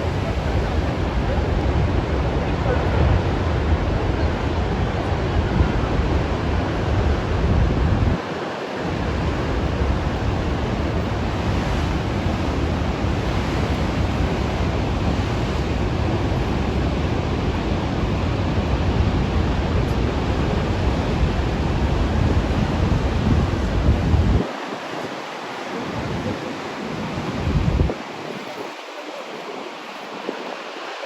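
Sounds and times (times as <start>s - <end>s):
ocean surf rushing: 0.0s - 31.0s
wind buffeting microphone: 0.0s - 31.0s.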